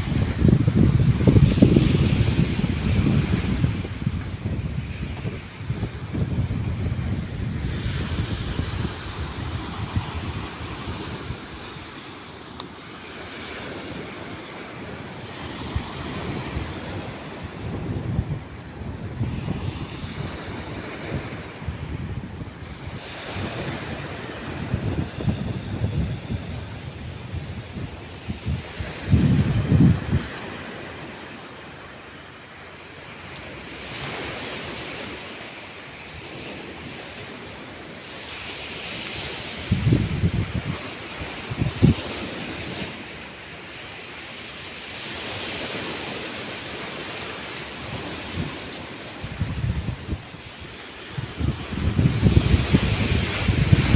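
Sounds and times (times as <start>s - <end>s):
surf washing on shore: 0.0s - 53.9s
wind gusting on microphone: 0.0s - 53.9s.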